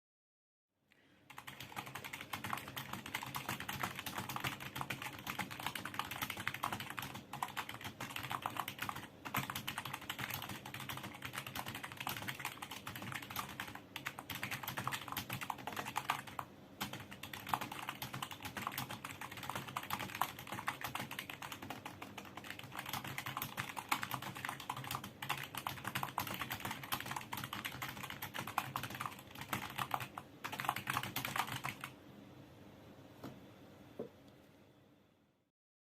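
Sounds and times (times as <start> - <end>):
fast typing on keyboard: 1.3 - 32.0.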